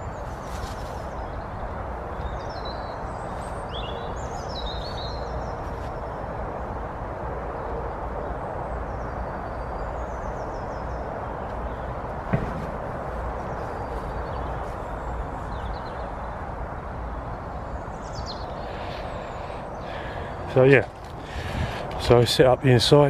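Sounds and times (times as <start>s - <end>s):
small songbirds chirping: 0.0s - 6.4s, 7.5s - 23.0s
steady rushing background noise: 0.0s - 23.0s.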